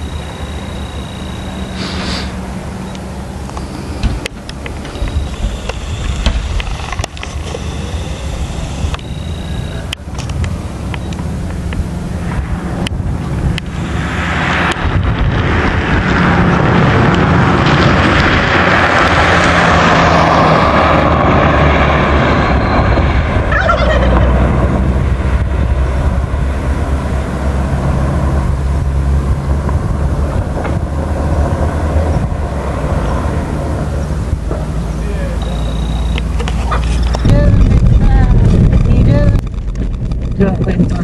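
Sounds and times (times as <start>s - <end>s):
low engine hum: 0.0s - 41.0s
road noise hiss: 0.0s - 41.0s.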